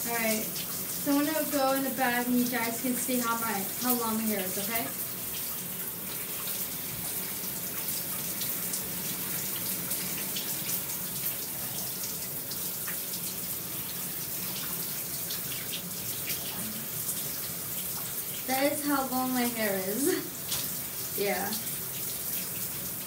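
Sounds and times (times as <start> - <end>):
shower spray running: 0.0 - 23.0
water spattering on tiles: 0.0 - 23.0.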